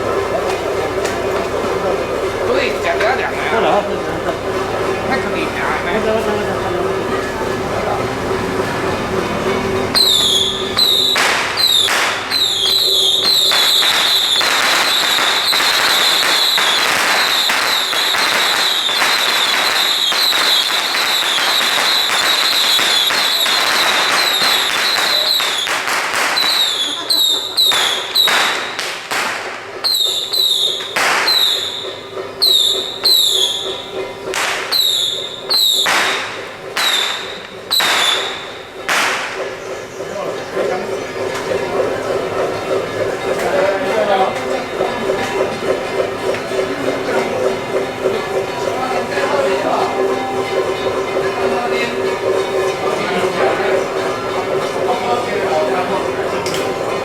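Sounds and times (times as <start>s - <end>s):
firecrackers crackling and banging: 0.0s - 57.0s.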